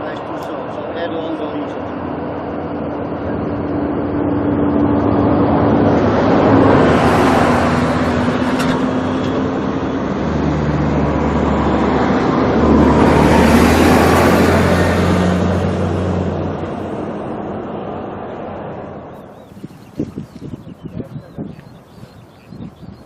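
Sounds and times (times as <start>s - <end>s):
jet airliner passing by: 0.0s - 19.5s.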